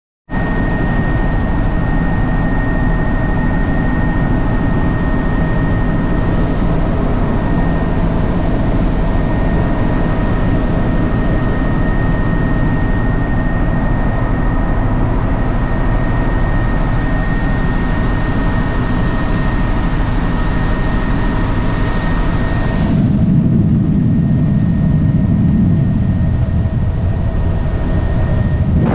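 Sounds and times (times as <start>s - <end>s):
helicopter engine and rotor: 0.3s - 28.9s
high whine: 0.3s - 28.9s.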